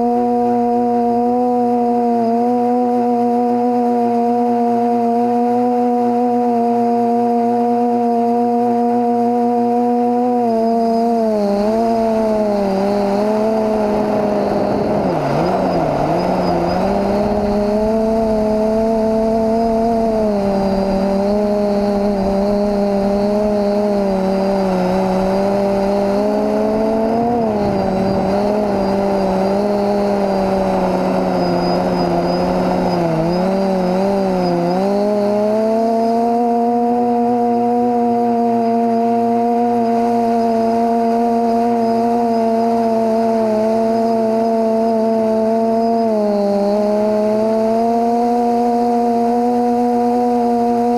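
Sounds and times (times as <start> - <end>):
quadcopter motors whining: 0.0 - 50.9.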